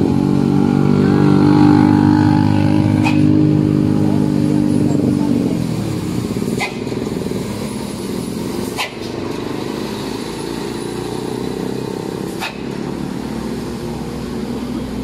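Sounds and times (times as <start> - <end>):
truck engine driving past: 0.0 - 15.0.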